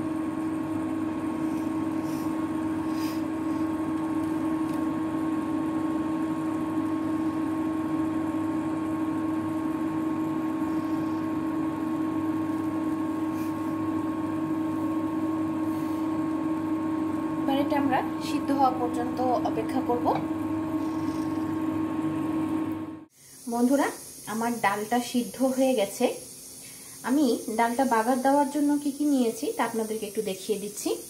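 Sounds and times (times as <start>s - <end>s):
cooling fan hum: 0.0s - 31.0s.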